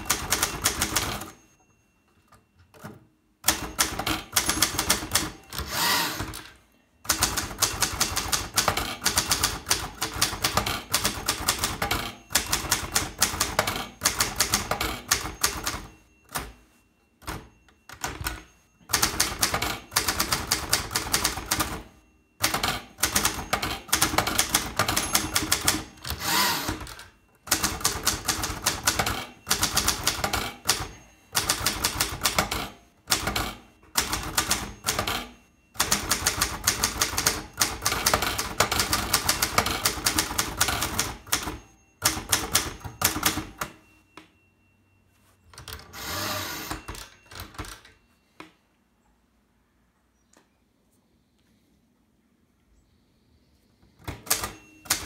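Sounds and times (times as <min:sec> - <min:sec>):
manual typewriter keystrokes: 0:00.0 - 0:01.4, 0:02.7 - 0:16.6, 0:17.2 - 0:43.8, 0:45.5 - 0:48.0, 0:54.0 - 0:55.0.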